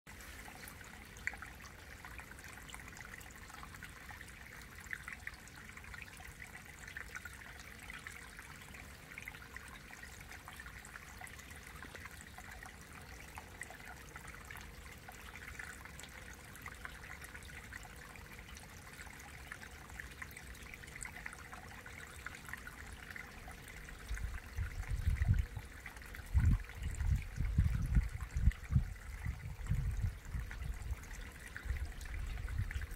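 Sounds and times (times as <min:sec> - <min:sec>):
stream water babbling over rock: 0:00.1 - 0:32.9.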